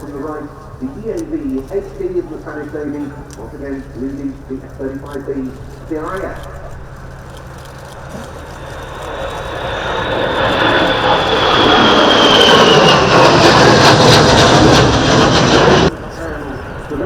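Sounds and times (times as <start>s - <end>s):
high turbine whine: 0.0s - 17.0s
jet engines flying past: 0.0s - 17.0s.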